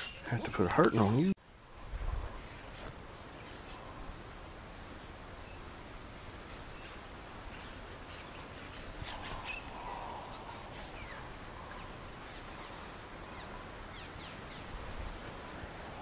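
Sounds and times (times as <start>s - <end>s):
birds chirping: 0.0s - 1.4s, 2.0s - 16.0s
outdoor background hiss: 0.0s - 16.0s.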